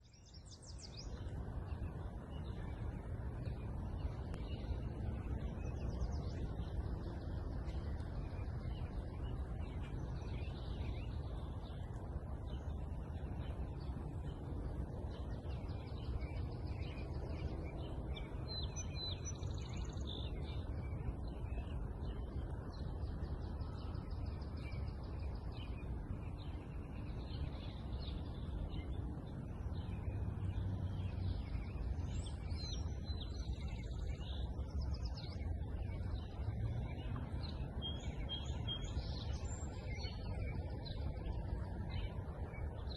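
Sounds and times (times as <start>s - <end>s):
small birds chirping: 0.0s - 42.9s
steady low rumble: 0.0s - 42.9s.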